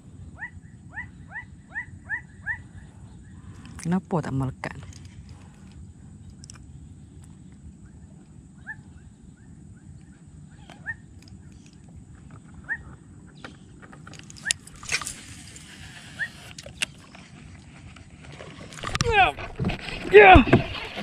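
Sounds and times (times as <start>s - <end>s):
steady low rumble: 0.0s - 18.2s.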